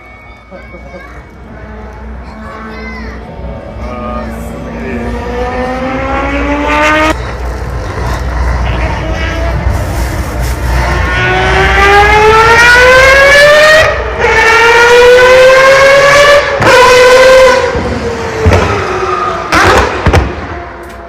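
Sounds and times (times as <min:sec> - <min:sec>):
rotary engine accelerating: 0:03.4 - 0:21.0.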